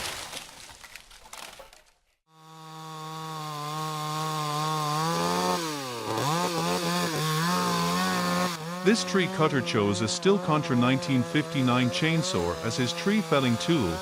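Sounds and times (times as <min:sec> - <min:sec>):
chainsaw running at high revs: 0:02.3 - 0:14.0.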